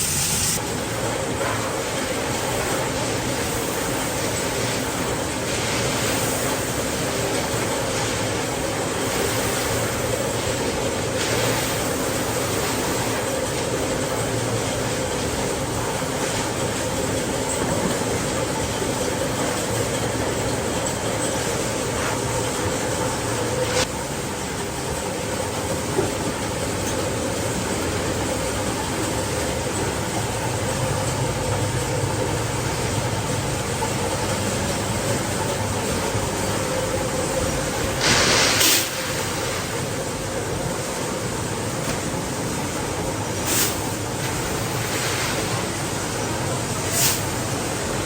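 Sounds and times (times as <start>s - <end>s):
factory machinery running: 0.0s - 48.0s.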